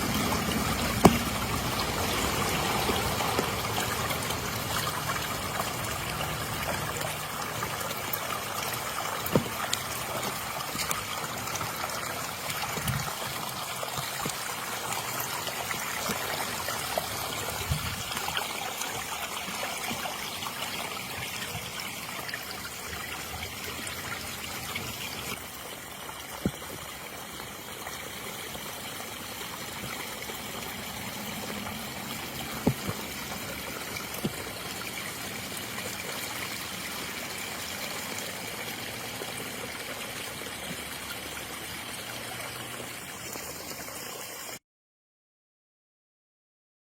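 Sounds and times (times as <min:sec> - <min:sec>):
water splashing over rocks: 0:00.0 - 0:44.6.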